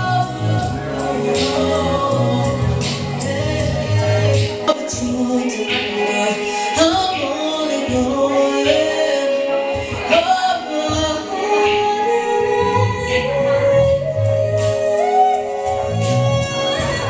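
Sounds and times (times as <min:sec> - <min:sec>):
live band playing: 0:00.0 - 0:17.0
person singing long notes: 0:00.0 - 0:17.0.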